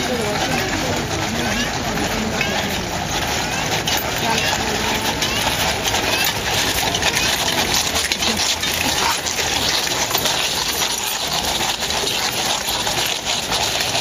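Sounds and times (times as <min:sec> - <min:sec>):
hooves stepping on sand: 0:00.0 - 0:14.0
horse tack jingling: 0:00.0 - 0:14.0.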